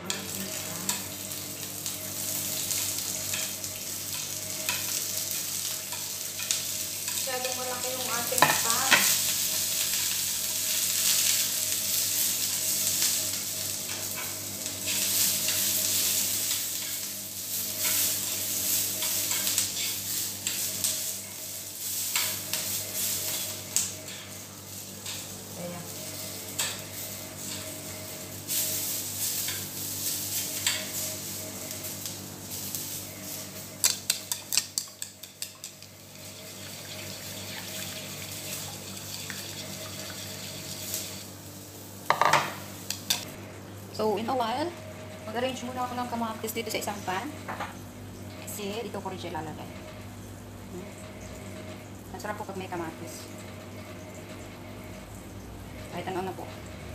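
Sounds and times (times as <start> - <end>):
vegetables sizzling in frying pan: 0.0 - 56.9.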